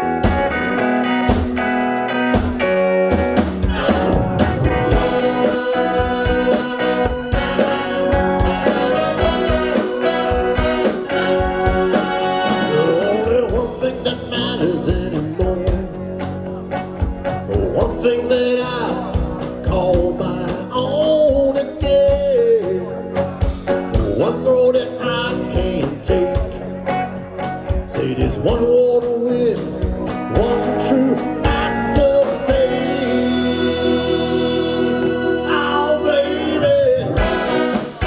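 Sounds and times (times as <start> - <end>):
drums steady beat: 0.0 - 33.8, 37.2 - 38.0
bending lead melody: 0.0 - 38.0
blues-rock band playing: 0.0 - 38.0.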